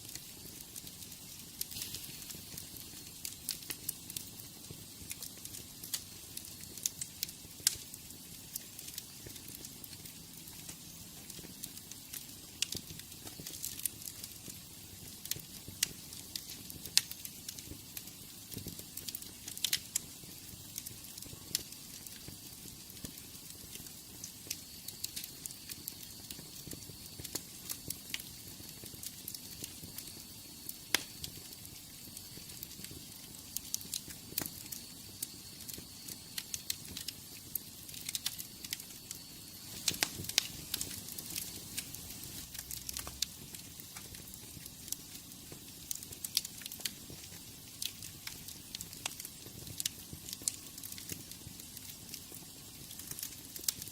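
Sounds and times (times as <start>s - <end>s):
fire pops and snaps: 0.0s - 53.9s
wood fire crackling: 0.0s - 53.9s.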